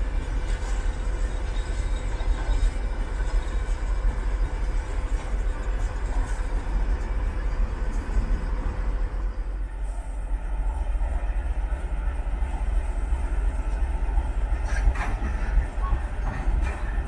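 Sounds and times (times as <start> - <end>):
diesel locomotive passing: 0.0 - 17.0
distant electric train passing: 0.0 - 17.0.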